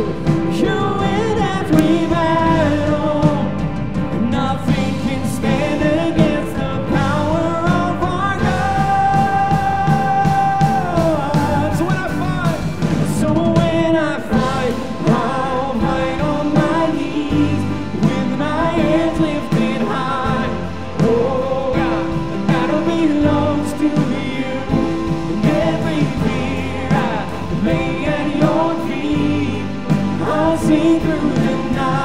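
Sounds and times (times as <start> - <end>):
drums: 0.0 - 32.0
keyboard: 0.0 - 32.0
singers: 0.0 - 32.0.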